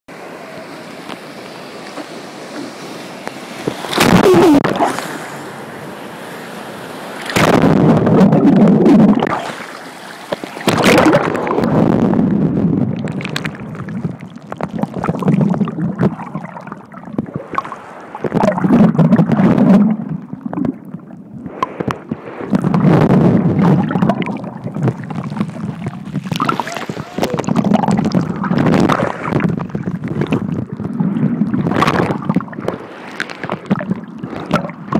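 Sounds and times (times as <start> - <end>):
sea waves sloshing: 0.1 - 34.9
muffled water gurgling: 3.9 - 4.9, 7.2 - 34.9.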